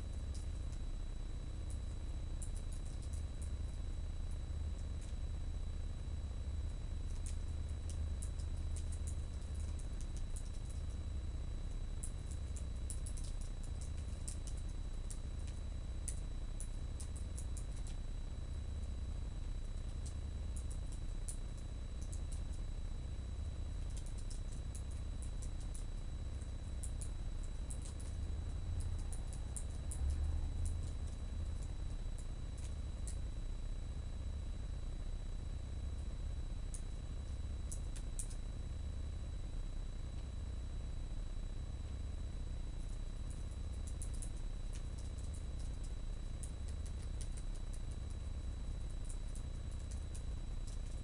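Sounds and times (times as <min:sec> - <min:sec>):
low hum: 0:00.0 - 0:51.0.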